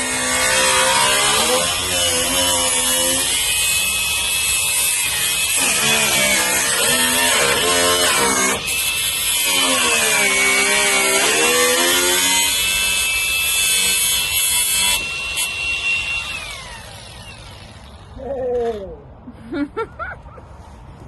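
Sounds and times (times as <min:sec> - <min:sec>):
power tool cutting steel: 0:00.0 - 0:18.2.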